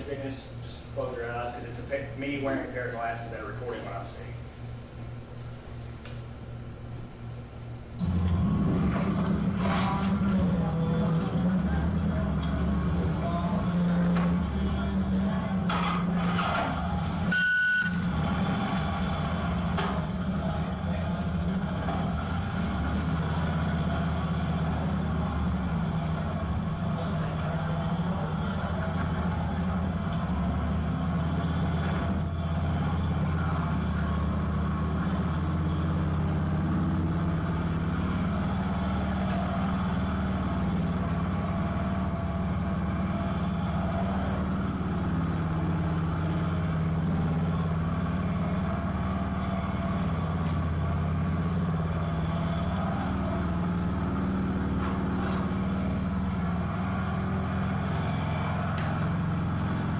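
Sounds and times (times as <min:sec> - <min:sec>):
motorcycle engine running: 0:07.0 - 0:59.9.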